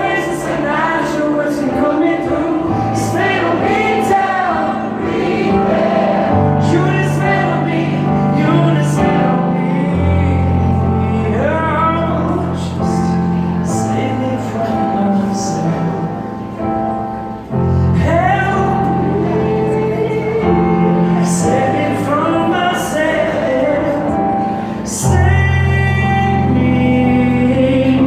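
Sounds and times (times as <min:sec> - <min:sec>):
voices singing wordless melody: 0:00.0 - 0:13.2, 0:18.0 - 0:28.0.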